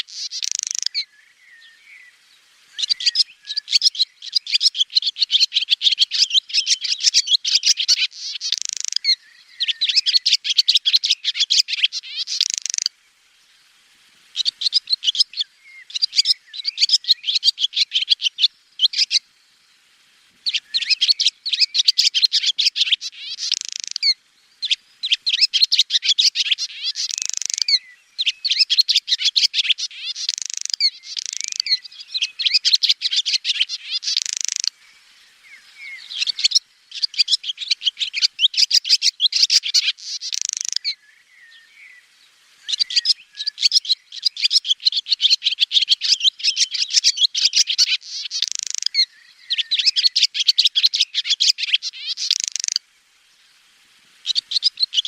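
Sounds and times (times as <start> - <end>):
swallow twittering: 0.0 - 12.9, 14.3 - 19.2, 20.4 - 52.8, 54.2 - 55.0.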